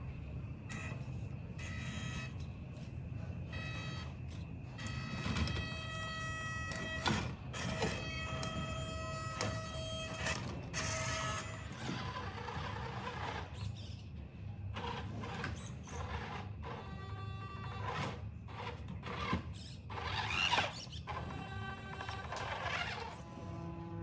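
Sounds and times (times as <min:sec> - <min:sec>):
small electric motor whining: 0:00.7 - 0:14.1, 0:14.8 - 0:24.0.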